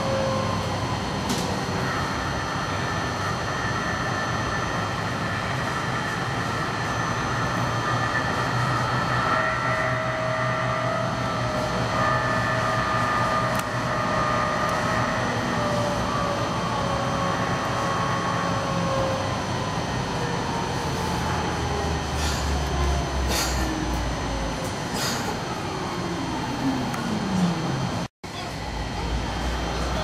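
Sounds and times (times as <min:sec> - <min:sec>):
tram motor whine: 0:00.0 - 0:30.0
tram rolling noise: 0:00.0 - 0:30.0.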